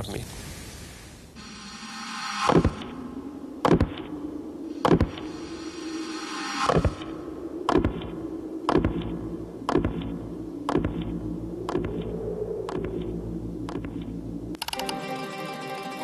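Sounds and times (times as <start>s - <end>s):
low steady drone: 1.4s - 15.9s.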